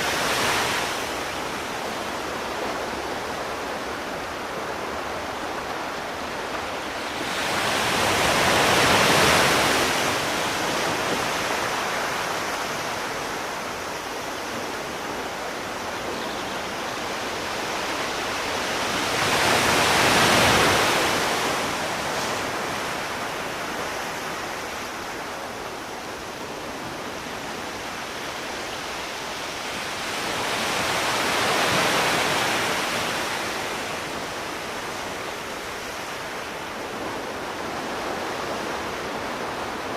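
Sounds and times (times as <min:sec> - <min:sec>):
steady hiss of surf: 0:00.0 - 0:39.9
waves breaking on shore: 0:00.0 - 0:39.9.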